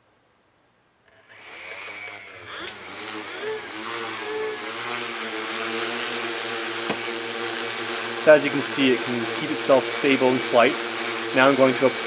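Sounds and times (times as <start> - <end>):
quadcopter motors whirring: 1.1 - 12.0.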